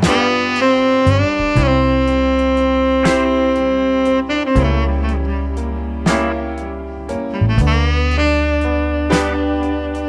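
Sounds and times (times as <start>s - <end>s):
melody of held notes: 0.0s - 10.0s
steady bass line: 0.0s - 10.0s.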